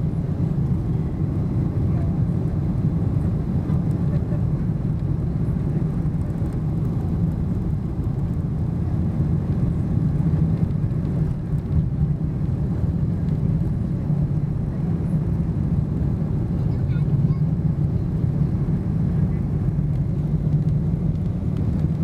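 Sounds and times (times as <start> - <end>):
jet engines low rumble in cabin: 0.0 - 22.0.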